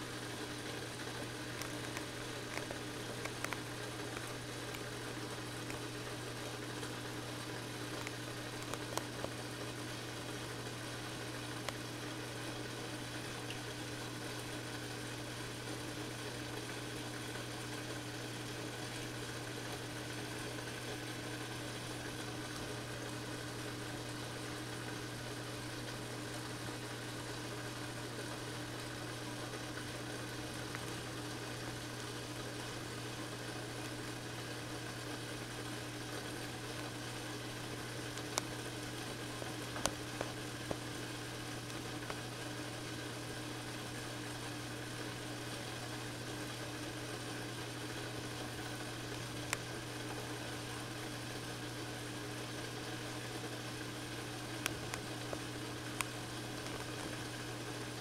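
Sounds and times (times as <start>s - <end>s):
aquarium pump humming: 0.0s - 58.0s.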